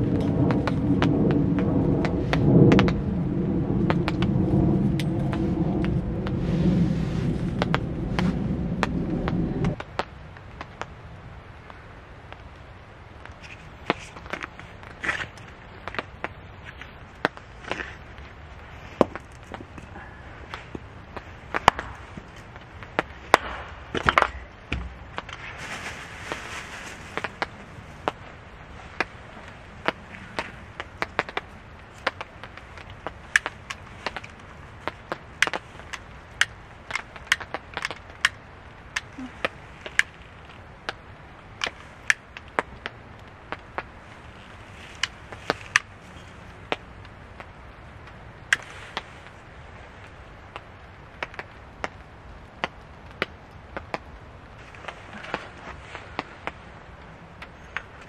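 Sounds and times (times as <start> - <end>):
rustle: 0.0 - 58.0.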